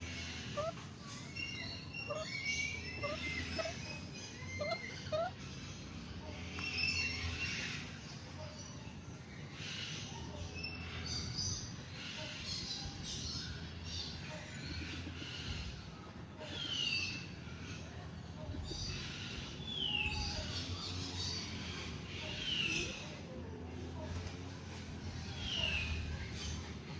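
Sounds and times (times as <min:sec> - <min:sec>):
birds chirping and singing: 0:00.0 - 0:26.9.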